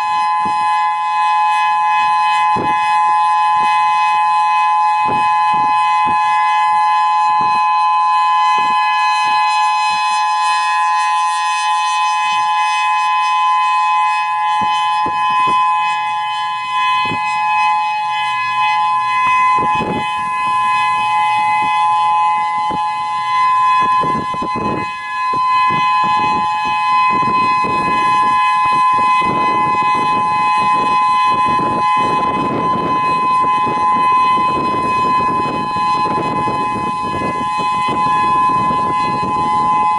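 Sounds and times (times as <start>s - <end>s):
dual-tone electronic siren: 0.0s - 39.9s
wind buffeting microphone: 0.0s - 39.9s.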